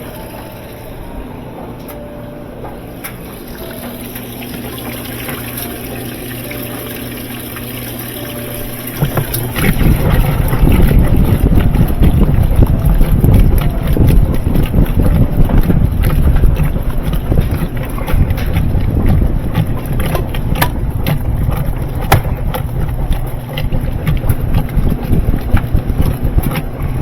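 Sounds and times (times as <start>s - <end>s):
washing machine churning rumble: 0.0s - 27.0s
washing machine motor hum: 0.0s - 27.0s.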